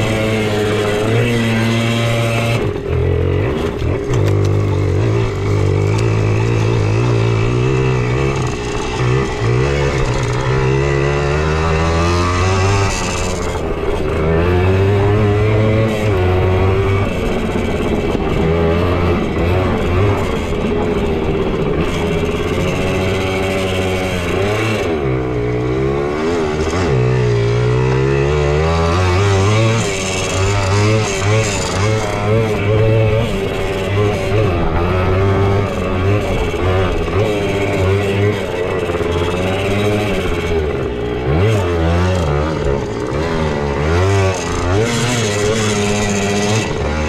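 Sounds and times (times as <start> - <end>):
two-stroke engine revving: 0.0 - 47.0.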